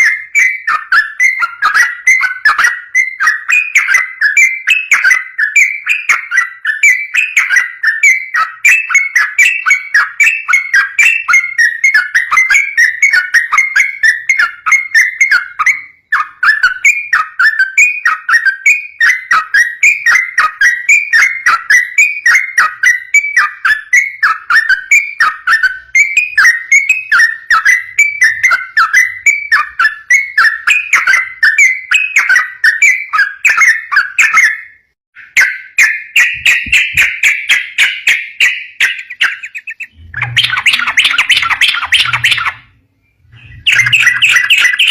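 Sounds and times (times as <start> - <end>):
bird chattering song: 0.0 - 44.9.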